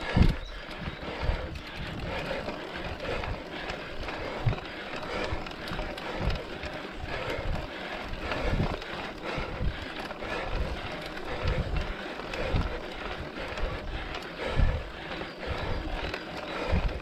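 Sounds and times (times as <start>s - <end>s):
bike rattling: 0.0s - 17.0s
mountain bike tyre and trail noise: 0.0s - 17.0s
wind buffeting microphone: 0.0s - 17.0s.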